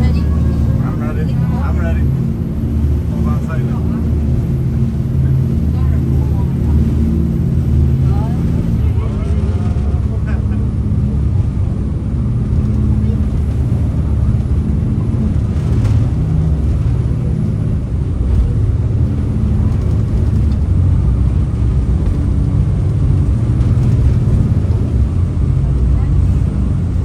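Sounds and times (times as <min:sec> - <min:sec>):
boat engines rumbling: 0:00.0 - 0:27.0.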